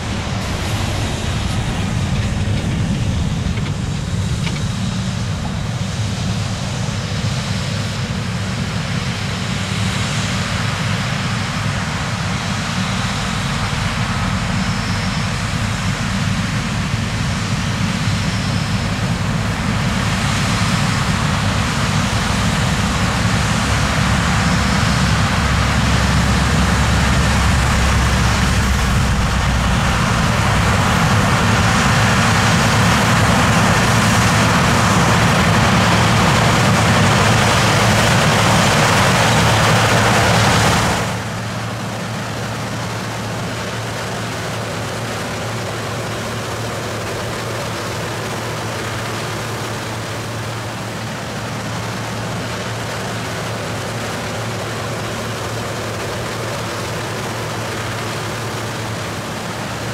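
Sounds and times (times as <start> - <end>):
diesel farm machinery drone: 0.0 - 59.9.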